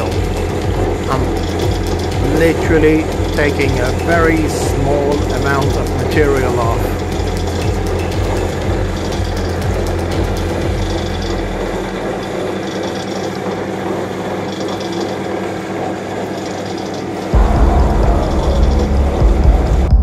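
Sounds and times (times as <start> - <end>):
low hum: 0.0 - 14.0, 17.3 - 20.0
metal lathe cutting: 0.0 - 19.4
coolant flowing: 0.0 - 19.5.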